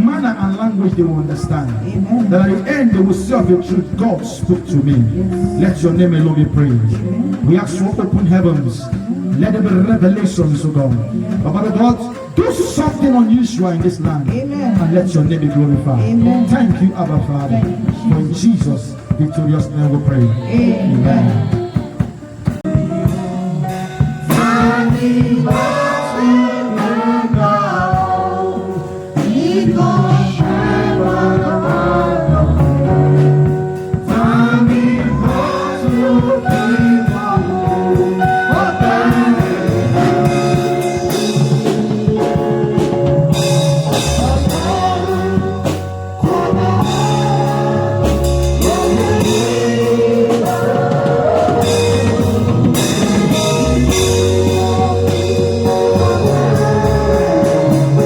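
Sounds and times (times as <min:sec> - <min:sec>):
gospel singing: 0:00.0 - 0:58.0
instrumental backing with bass: 0:00.0 - 0:58.0.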